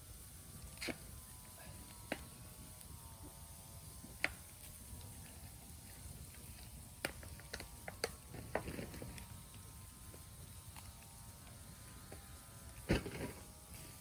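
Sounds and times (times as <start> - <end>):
bonfire crackling: 0.0 - 14.0
sharp pops of burning bamboo: 0.1 - 1.2, 1.8 - 14.0.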